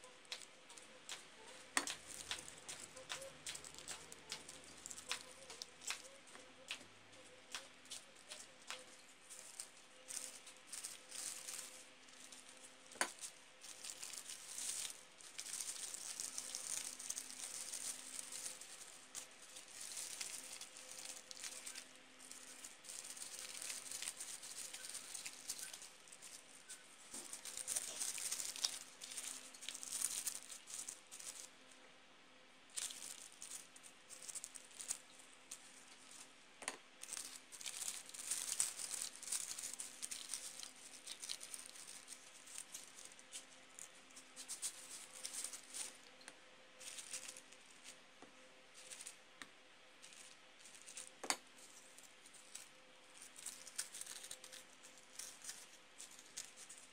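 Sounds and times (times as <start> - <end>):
faint steady hum: 0.0 - 56.9
tissue paper rustling: 0.3 - 6.5, 7.2 - 31.6, 32.7 - 36.3, 37.0 - 46.2, 46.8 - 48.1, 48.7 - 49.2, 50.0 - 56.9.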